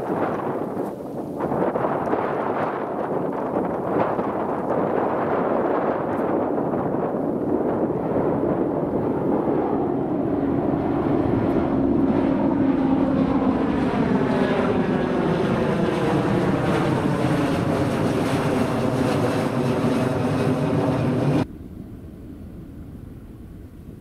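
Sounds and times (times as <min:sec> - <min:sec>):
jet passing overhead: 0:00.0 - 0:23.5.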